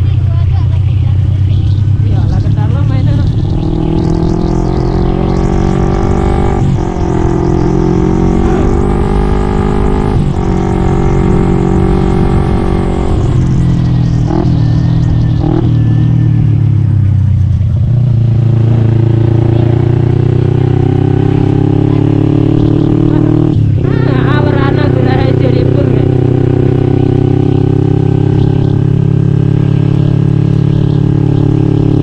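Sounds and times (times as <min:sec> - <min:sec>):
two-stroke scooter engine accelerating: 0:00.0 - 0:32.0.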